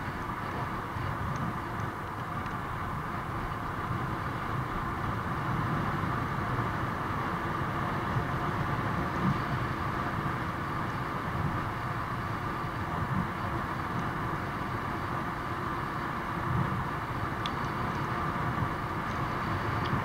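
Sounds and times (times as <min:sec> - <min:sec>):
bicycle tyre and drivetrain hum: 0:00.0 - 0:20.0
wind rumble on microphone: 0:00.0 - 0:20.0.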